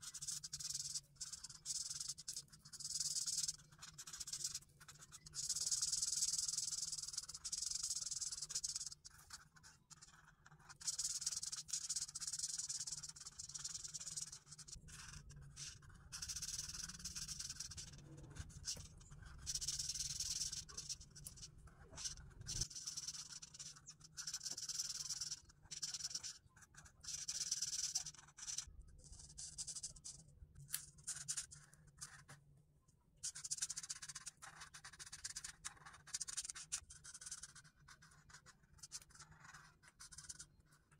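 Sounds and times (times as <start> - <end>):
marker pen scratching on paper: 0.0 - 32.4, 33.2 - 40.9.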